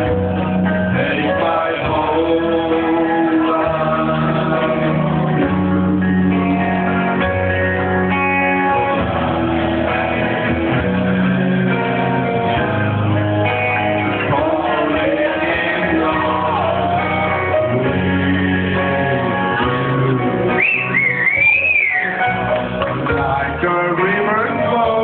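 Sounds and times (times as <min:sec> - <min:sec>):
slow love song with guitar: 0:00.0 - 0:25.0
steady bass line: 0:00.0 - 0:25.0.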